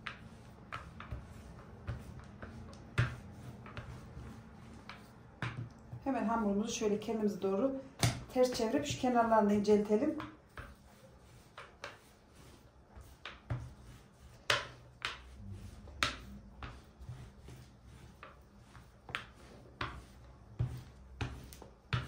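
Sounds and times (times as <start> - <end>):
rolling pin rumbling over dough: 0.0 - 6.9, 8.1 - 22.0.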